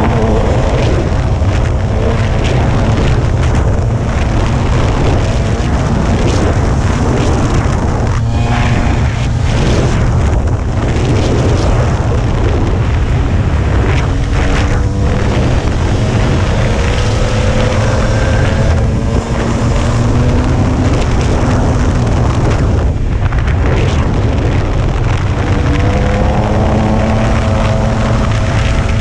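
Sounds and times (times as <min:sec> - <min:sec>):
vehicle engine accelerating: 0:00.0 - 0:29.0
wind buffeting microphone: 0:00.0 - 0:29.0.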